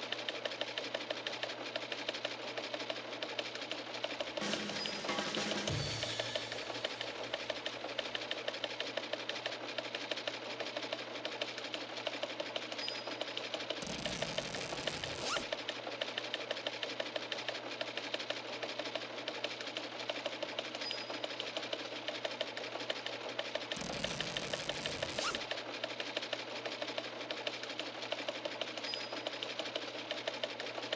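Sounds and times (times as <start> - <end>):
fast mechanical clatter: 0.0 - 4.9, 5.9 - 30.9.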